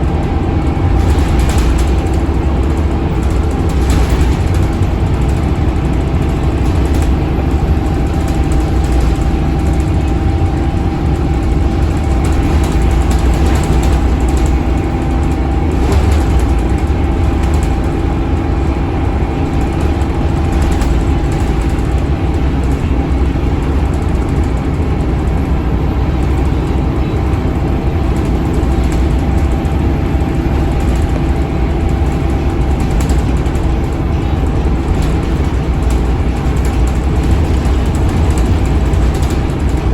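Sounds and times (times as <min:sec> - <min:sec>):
bus diesel engine running: 0:00.0 - 0:39.9
road noise: 0:00.0 - 0:39.9
faint rattles: 0:00.1 - 0:39.9.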